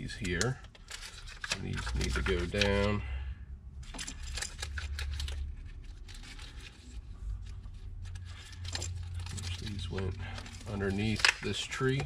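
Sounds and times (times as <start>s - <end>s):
wiring and hoses clicking and rustling: 0.0s - 3.1s, 3.8s - 12.0s
low steady hum: 0.0s - 12.0s.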